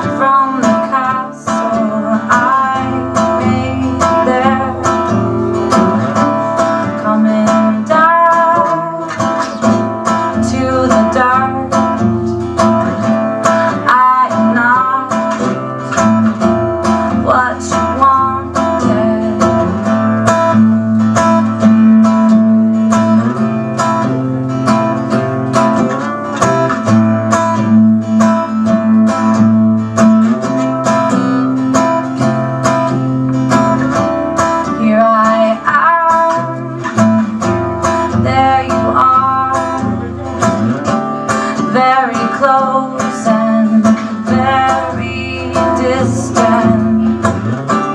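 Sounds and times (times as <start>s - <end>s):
acoustic guitar strumming: 0.0s - 47.9s.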